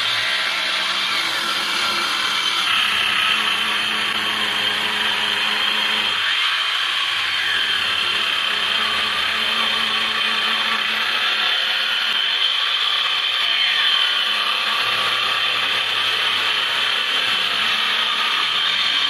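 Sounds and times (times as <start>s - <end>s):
circular saw cutting wood: 0.0s - 19.0s.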